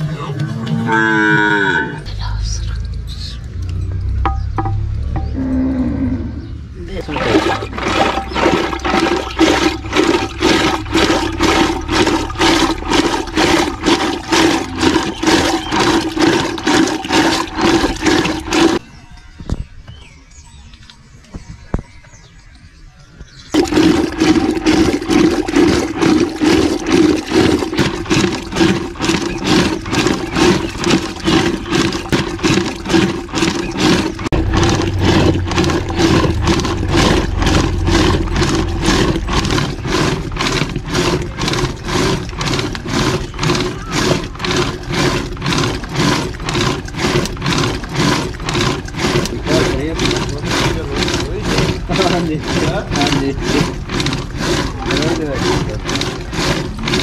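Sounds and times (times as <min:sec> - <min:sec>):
rhythmic sloshing of churn: 0:03.7 - 0:05.4, 0:06.8 - 0:18.8, 0:23.5 - 0:57.0.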